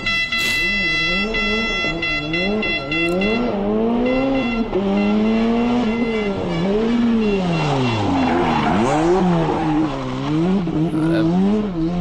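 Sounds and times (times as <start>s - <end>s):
rally car engine revving: 0.6s - 12.0s.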